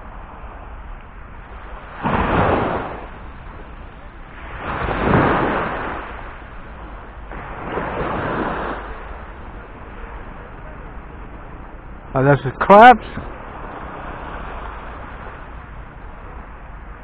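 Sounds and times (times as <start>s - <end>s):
wind rumble on microphone: 0.0s - 12.2s, 13.2s - 17.0s
waves breaking on shore: 0.0s - 17.0s.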